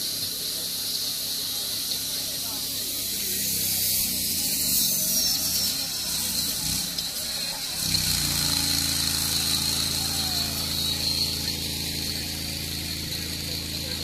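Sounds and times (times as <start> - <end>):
small pump engine running: 0.0 - 14.0.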